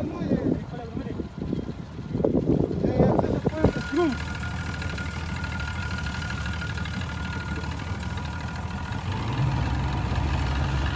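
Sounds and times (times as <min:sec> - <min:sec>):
outboard motor running: 0:00.0 - 0:10.9.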